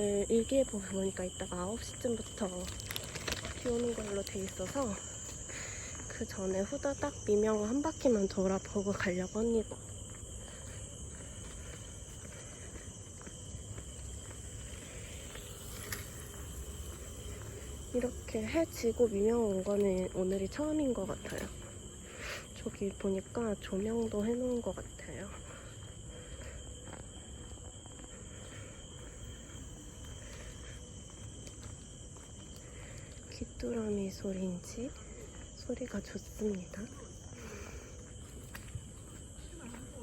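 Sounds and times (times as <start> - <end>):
crickets trilling: 0.0 - 40.0
faint footsteps: 0.0 - 40.0.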